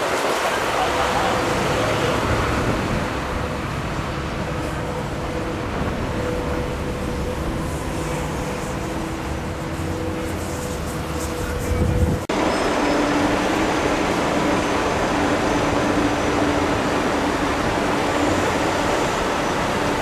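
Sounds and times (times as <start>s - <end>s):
road noise hiss: 0.0s - 20.0s.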